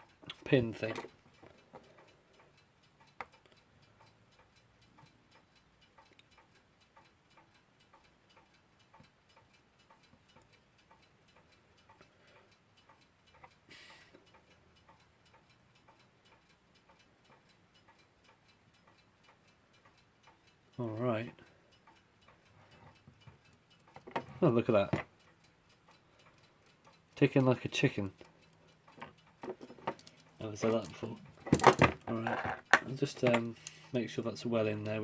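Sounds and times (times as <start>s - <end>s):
clock ticking faintly: 0.0s - 35.0s.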